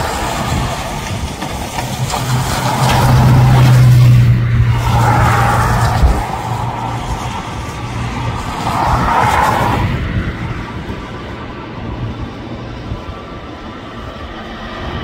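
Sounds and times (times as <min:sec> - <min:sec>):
low engine hum: 0:00.0 - 0:15.0
tyre hiss on wet road: 0:00.0 - 0:15.0.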